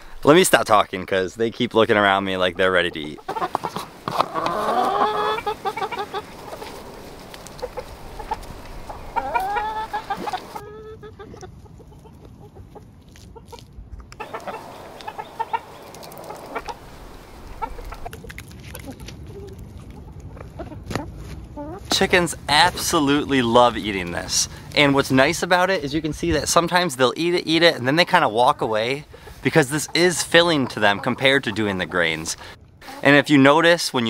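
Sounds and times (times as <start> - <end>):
chickens clucking: 2.6 - 13.6, 14.2 - 18.2, 18.8 - 25.7, 27.5 - 33.2.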